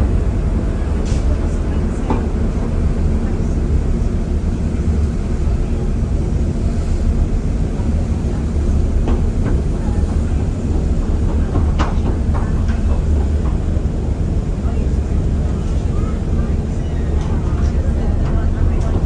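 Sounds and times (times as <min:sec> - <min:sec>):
ferry engines rumbling: 0:00.0 - 0:19.0.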